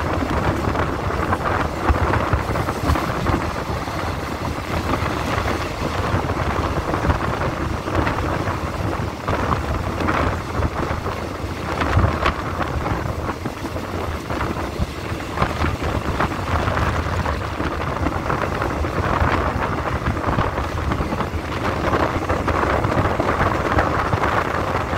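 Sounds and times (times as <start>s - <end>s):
train running on track: 0.0s - 24.9s
wind buffeting microphone: 0.0s - 24.9s.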